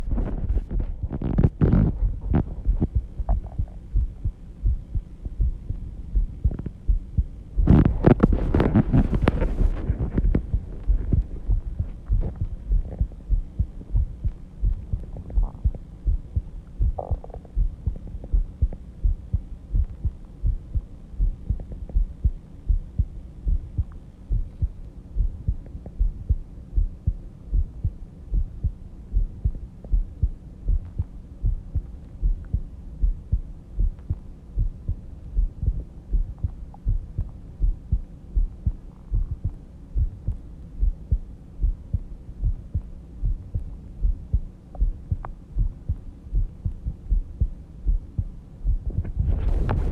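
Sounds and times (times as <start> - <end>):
heartbeat thumps: 0.0 - 49.9
steady low hum: 0.0 - 49.9.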